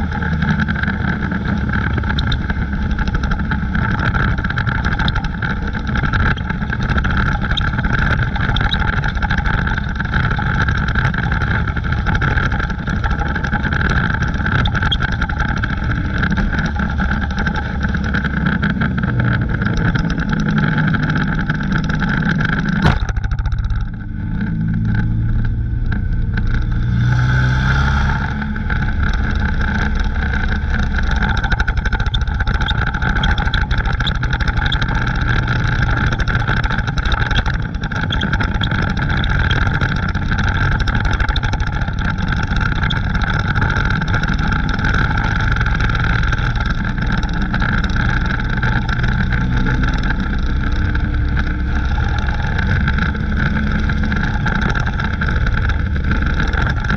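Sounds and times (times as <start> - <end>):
race car engine running loud: 0.0 - 56.9.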